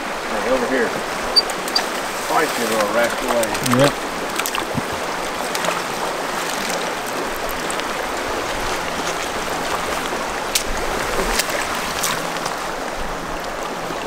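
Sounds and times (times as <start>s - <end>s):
river water over rocks: 0.0s - 14.0s.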